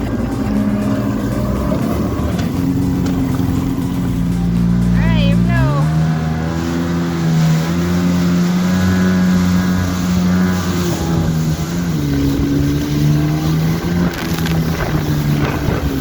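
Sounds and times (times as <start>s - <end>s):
jet ski engine droning: 0.0s - 16.0s.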